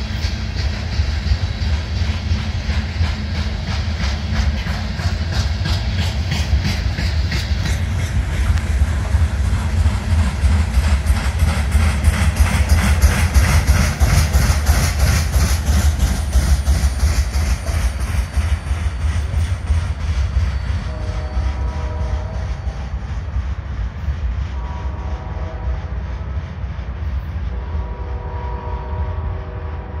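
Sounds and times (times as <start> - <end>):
rail cars wheels pounding: 0.0 - 30.0.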